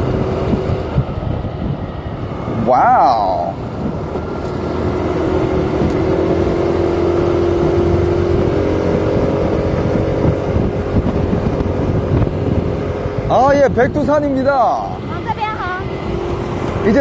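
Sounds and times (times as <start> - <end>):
road noise: 0.0 - 17.0
vehicle engine drone: 0.0 - 17.0.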